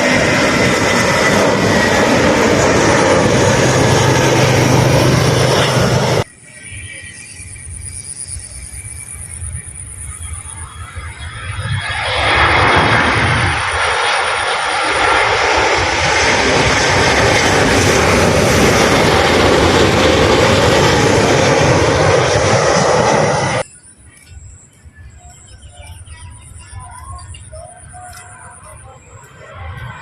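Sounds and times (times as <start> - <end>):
airliner engine noise: 0.0 - 30.0.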